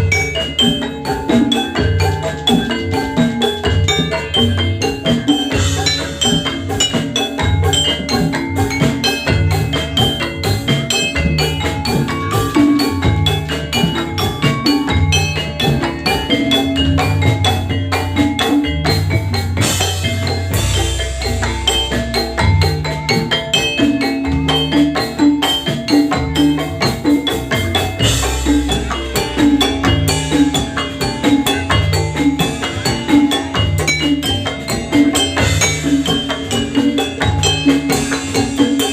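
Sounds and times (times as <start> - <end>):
drums: 0.0 - 38.9
metallophone patterns: 0.0 - 38.9.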